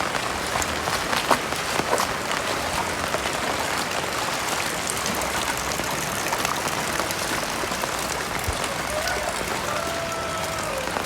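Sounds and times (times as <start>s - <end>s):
heavy rain falling: 0.0s - 11.0s
raindrops ticking on surfaces: 0.0s - 11.0s.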